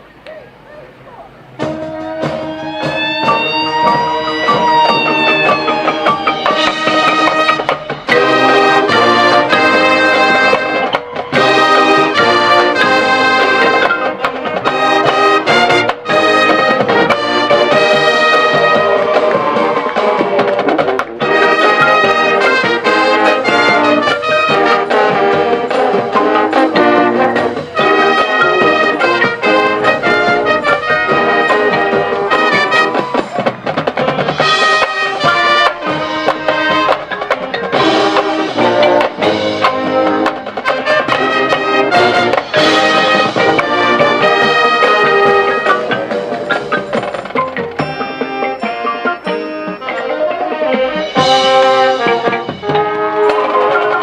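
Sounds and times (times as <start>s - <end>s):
brass band playing chords: 0.0s - 54.0s.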